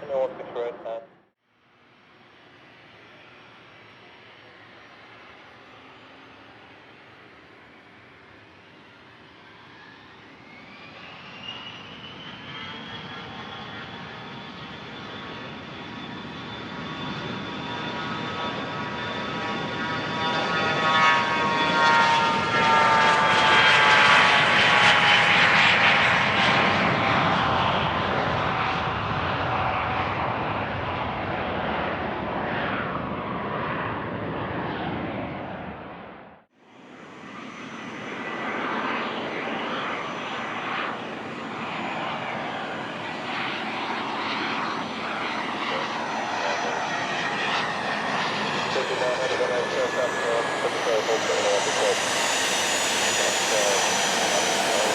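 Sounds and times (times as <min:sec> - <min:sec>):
jet engines passing by: 0:00.0 - 0:54.9.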